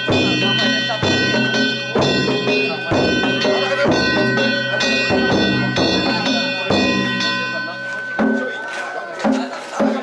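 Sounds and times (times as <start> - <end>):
ringing gongs: 0.0 - 9.6
taiko drum strokes: 0.0 - 10.0.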